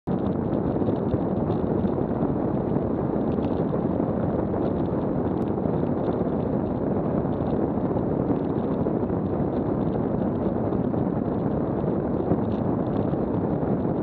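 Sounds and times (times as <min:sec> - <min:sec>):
wind buffeting microphone: 0:00.1 - 0:14.0.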